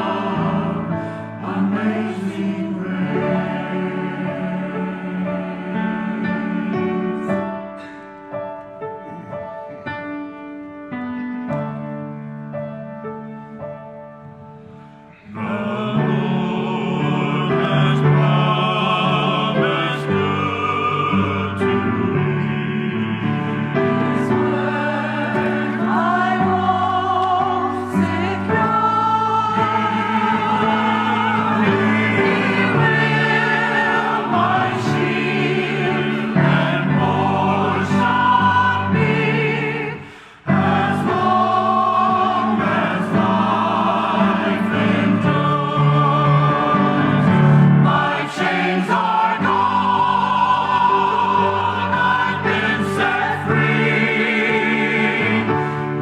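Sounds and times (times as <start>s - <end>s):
choir singing with accompaniment: 0.0s - 10.4s, 13.5s - 56.0s.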